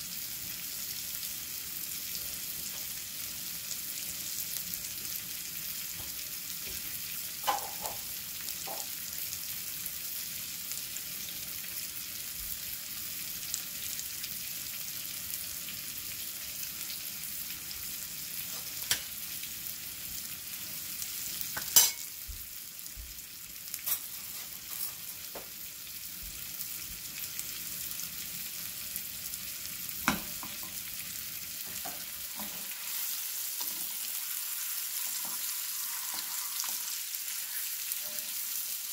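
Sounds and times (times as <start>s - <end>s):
steak sizzling in skillet: 0.0s - 38.9s.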